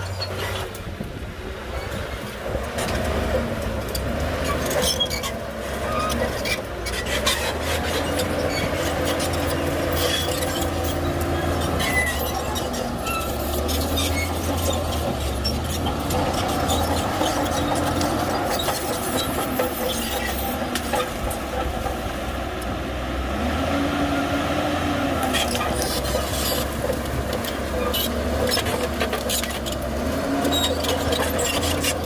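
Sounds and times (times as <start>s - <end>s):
crawler tracks clanking and squealing: 0.0s - 22.8s, 23.4s - 32.0s
bulldozer diesel engine: 0.0s - 32.0s.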